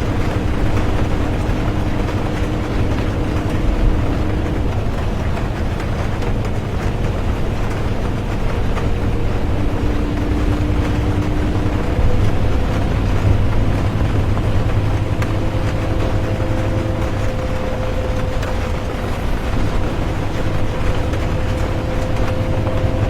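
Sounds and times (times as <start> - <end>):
bus engine and road rumble: 0.0 - 23.0
faint whining tones: 0.0 - 23.0
rain hiss: 0.0 - 23.0.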